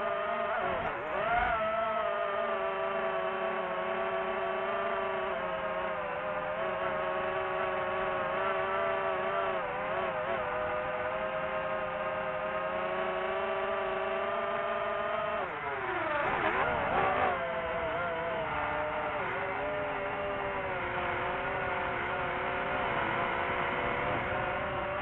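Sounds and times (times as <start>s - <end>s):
drone rotors whirring: 0.0s - 25.0s.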